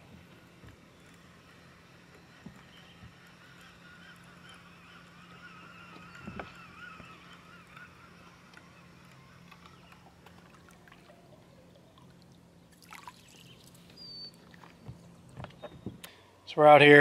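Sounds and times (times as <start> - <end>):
fishing reel whirring: 0.0 - 15.2.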